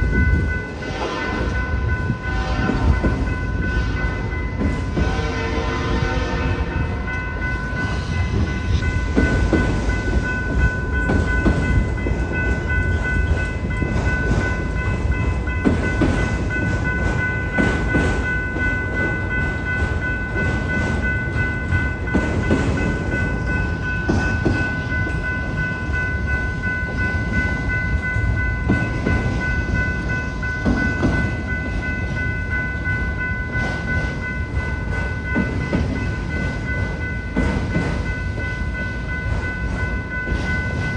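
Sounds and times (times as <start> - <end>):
crossing bell ringing: 0.0 - 40.9
freight train rumbling: 0.0 - 40.9.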